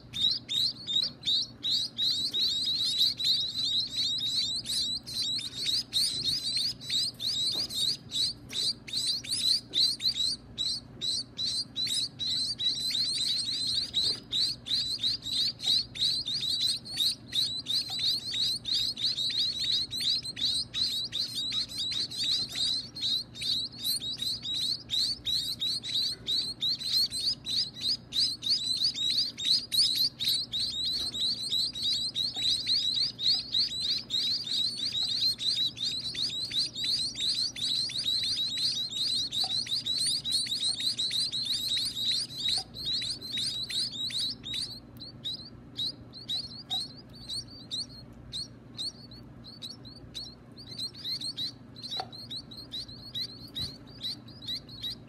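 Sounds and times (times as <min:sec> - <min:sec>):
nestlings begging chirps: 0:00.0 - 0:55.0.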